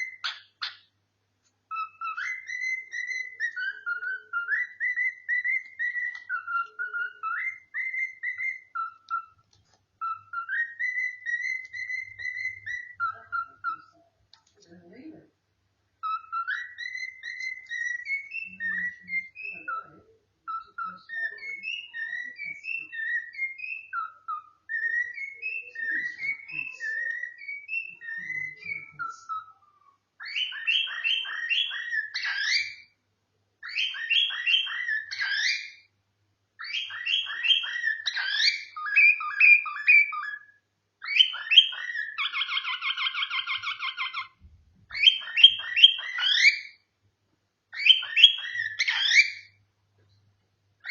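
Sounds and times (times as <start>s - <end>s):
cockatiel whistling and singing: 0.0s - 0.9s, 1.7s - 14.0s, 16.0s - 33.0s, 33.6s - 36.0s, 36.6s - 46.9s, 47.7s - 49.6s.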